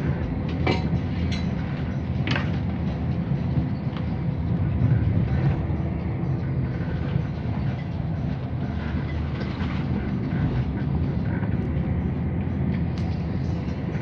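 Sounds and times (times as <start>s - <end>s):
train low rumble from inside: 0.0s - 14.0s.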